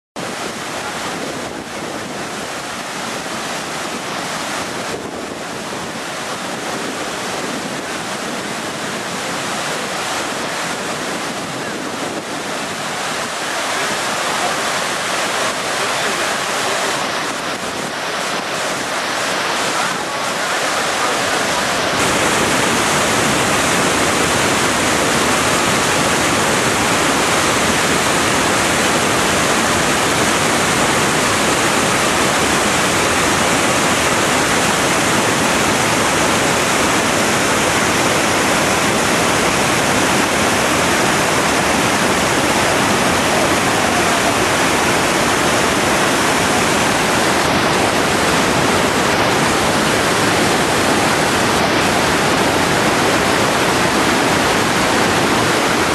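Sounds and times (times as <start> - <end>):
water rushing over rocks: 0.2 - 55.9.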